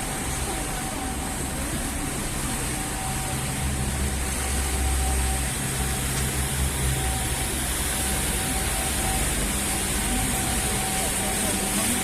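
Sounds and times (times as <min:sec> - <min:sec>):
faint steady whine: 0:00.0 - 0:12.0
traffic hiss: 0:00.0 - 0:12.0
vehicle engine humming: 0:00.0 - 0:12.0.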